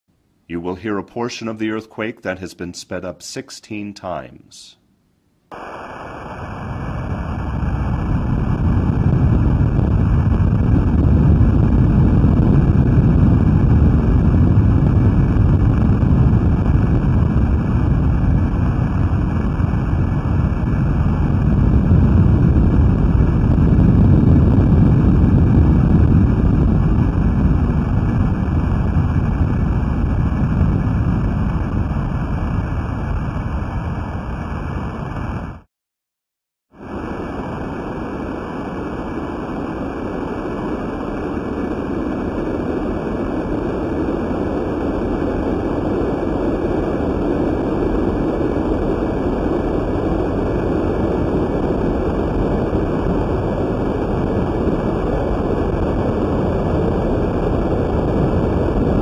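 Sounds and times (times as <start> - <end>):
deep continuous rumble: 5.5 - 35.7, 36.8 - 59.0.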